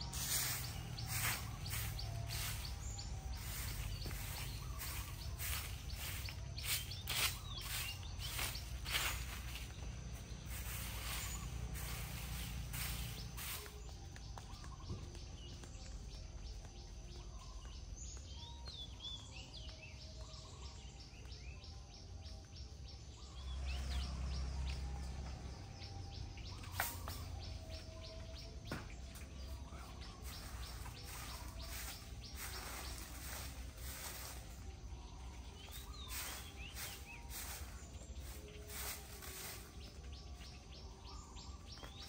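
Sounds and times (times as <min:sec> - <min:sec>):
bird chirps: 0:00.0 - 0:42.0.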